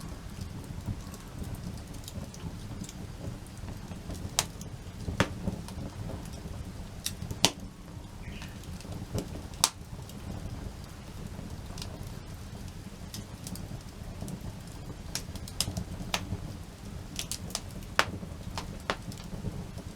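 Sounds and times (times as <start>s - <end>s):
campfire crackling and popping: 0.0s - 19.9s
low fire rumble: 0.0s - 19.9s.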